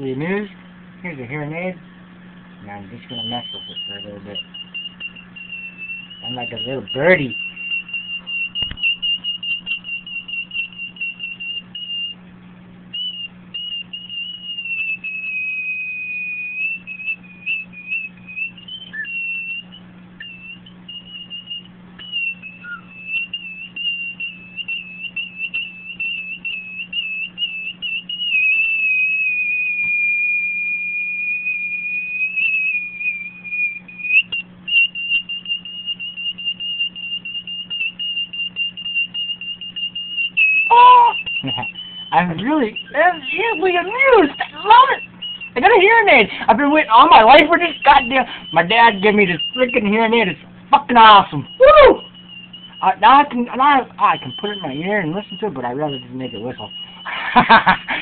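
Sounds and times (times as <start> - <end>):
hearing aid feedback whistle: 0.0 - 58.0.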